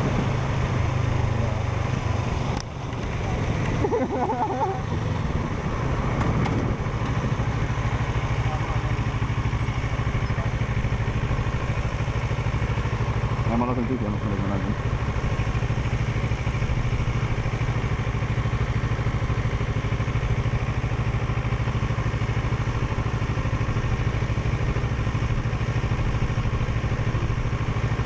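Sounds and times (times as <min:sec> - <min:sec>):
motorcycle engine running steadily: 0:00.0 - 0:28.0.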